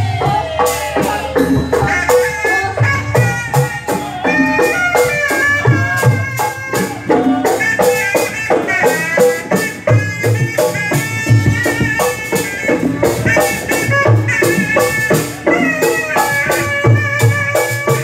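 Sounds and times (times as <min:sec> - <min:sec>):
pitched melody: 0:00.0 - 0:18.0.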